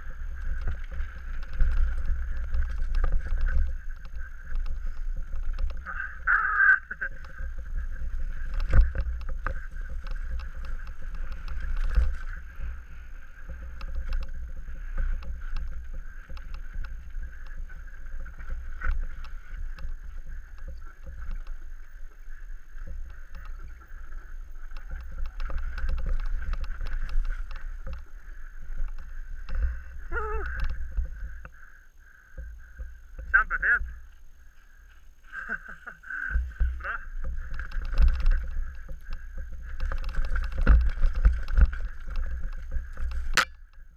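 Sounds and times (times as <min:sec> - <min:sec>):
bike chain rattling and clicking: 0:00.0 - 0:06.3, 0:06.9 - 0:31.3, 0:36.5 - 0:43.9
wind rumble on microphone: 0:00.0 - 0:34.8, 0:35.5 - 0:43.9.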